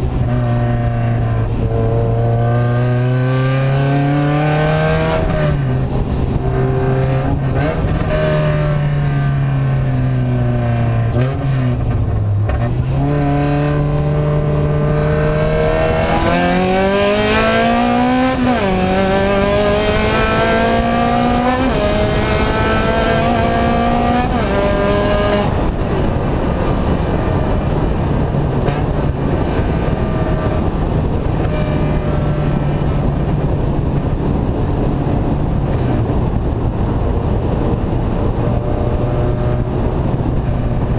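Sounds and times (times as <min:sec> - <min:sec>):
vehicle engine with open exhaust: 0:00.0 - 0:40.9.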